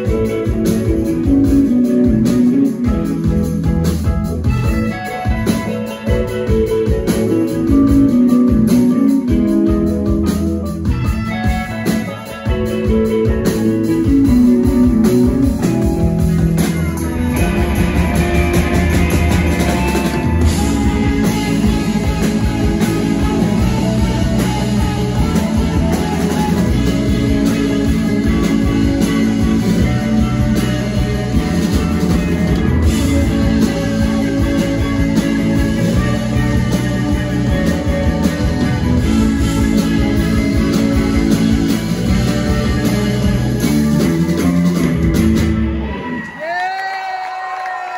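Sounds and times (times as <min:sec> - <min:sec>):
keyboard: 0:00.0 - 0:46.4
drum kit: 0:00.0 - 0:47.3
bass guitar: 0:00.0 - 0:47.9
electric guitars: 0:00.0 - 0:47.9.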